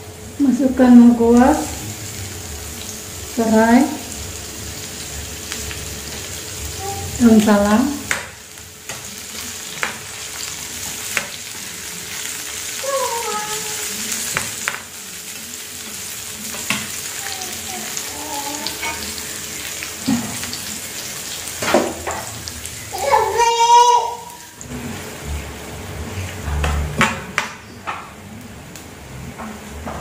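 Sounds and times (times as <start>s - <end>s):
aromatics sizzling in hot oil: 0.0s - 30.0s.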